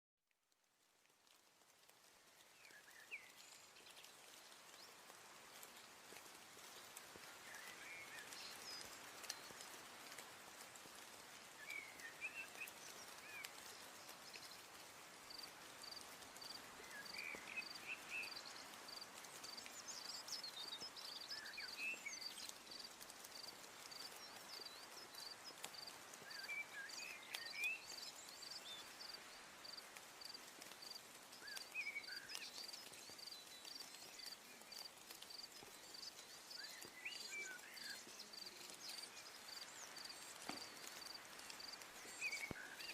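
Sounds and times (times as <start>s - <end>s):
low hiss: 0.5s - 42.9s.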